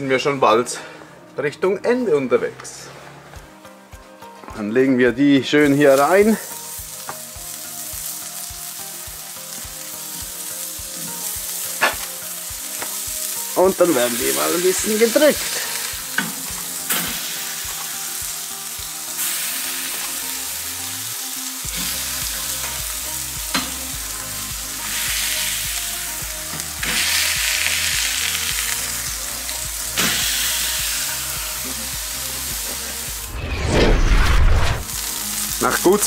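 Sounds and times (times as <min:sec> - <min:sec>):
burger patties sizzling: 0:05.7 - 0:36.0.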